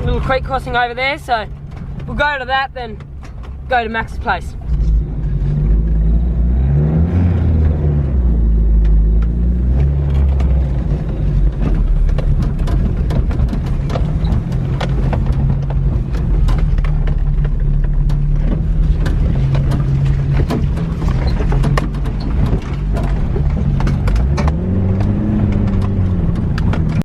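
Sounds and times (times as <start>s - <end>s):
car body clicks and rattles: 0.0s - 6.1s, 7.4s - 27.0s
car engine running: 0.0s - 27.0s.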